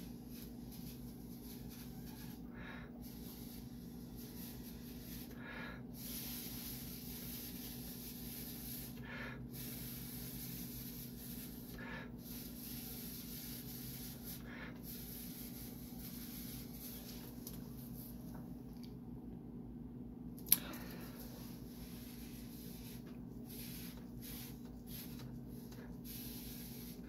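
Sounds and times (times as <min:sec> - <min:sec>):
air hissing from a hose: 0:00.0 - 0:17.2, 0:20.7 - 0:27.0.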